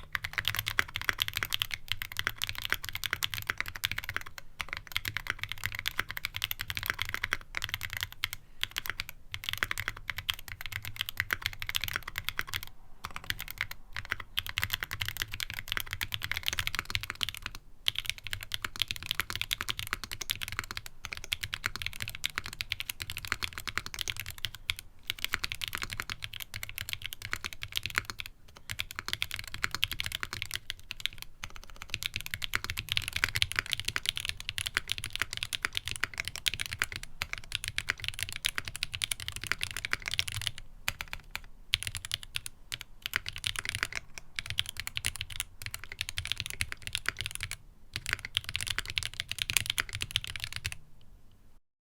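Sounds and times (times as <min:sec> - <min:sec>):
mechanical keyboard typing: 0:00.0 - 0:50.8.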